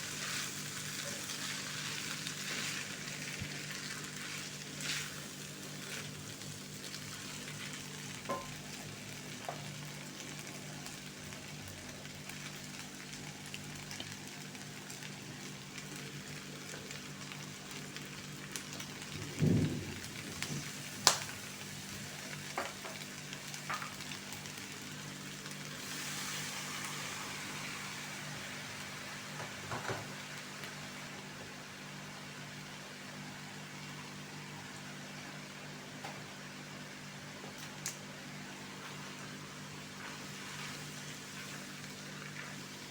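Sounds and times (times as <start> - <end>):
food sizzling in hot oil: 0.0 - 42.9.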